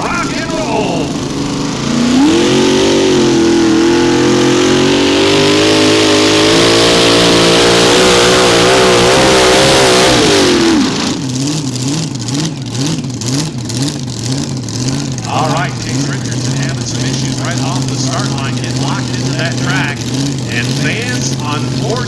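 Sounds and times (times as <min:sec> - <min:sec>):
tractor engine at full throttle: 0:00.0 - 0:22.0.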